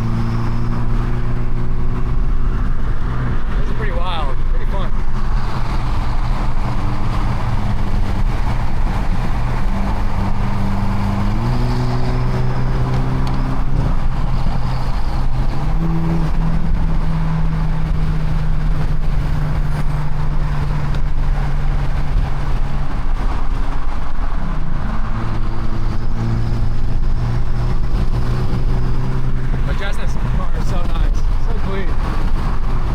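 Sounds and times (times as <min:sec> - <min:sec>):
car engine running: 0:00.0 - 0:32.9
road rumble: 0:00.0 - 0:32.9.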